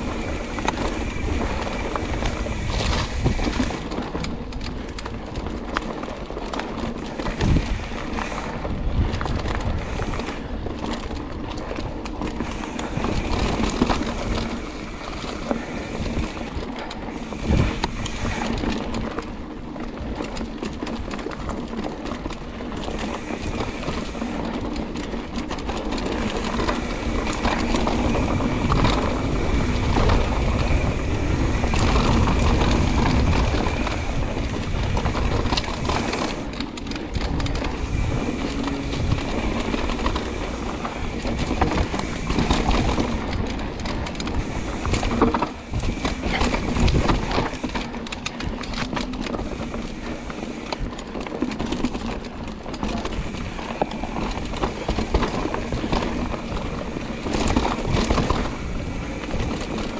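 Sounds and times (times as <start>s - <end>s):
bike rattling and clicking: 0.0s - 59.9s
bike tyres crunching over dirt: 0.0s - 59.9s.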